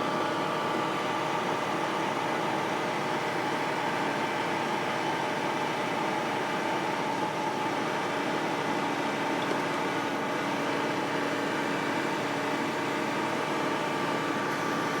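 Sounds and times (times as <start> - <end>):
concrete pump mechanical hum: 0.0 - 15.0.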